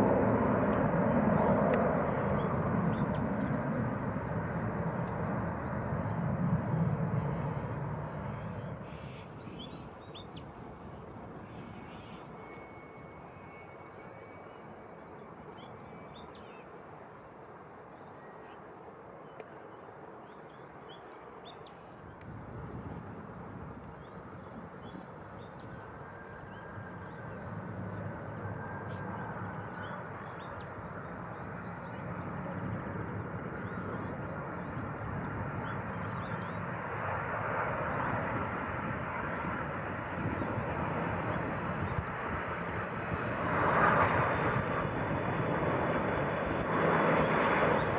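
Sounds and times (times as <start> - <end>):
jet engines rushing: 0.0 - 17.9, 22.0 - 47.9
faint whine: 0.6 - 42.4.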